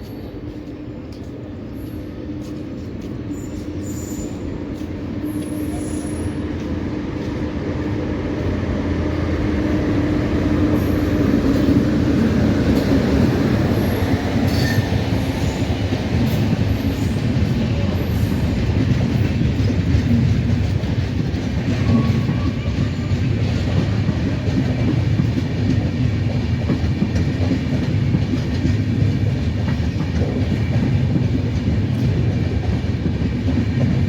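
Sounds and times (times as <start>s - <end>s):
train approaching: 0.0s - 34.0s.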